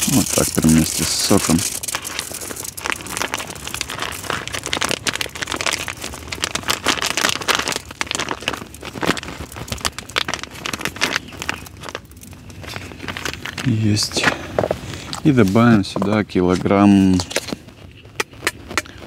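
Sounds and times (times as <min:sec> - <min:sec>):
plastic packet crinkling: 0:00.0 - 0:19.0
wet seeds squeezed into bucket: 0:00.0 - 0:19.0.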